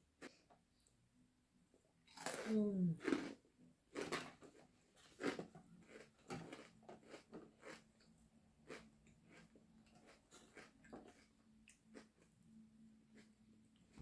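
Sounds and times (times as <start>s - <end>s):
chewing with soft crunches: 2.1s - 14.0s.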